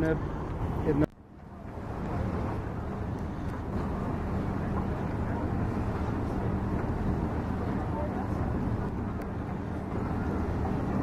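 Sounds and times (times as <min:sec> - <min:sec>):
ship engine drone: 0:00.0 - 0:11.0.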